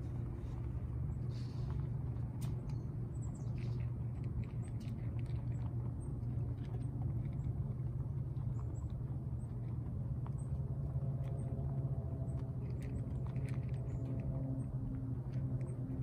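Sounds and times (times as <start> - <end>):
rabbits chewing clicks: 0.0 - 16.0
steady low hum: 0.0 - 16.0.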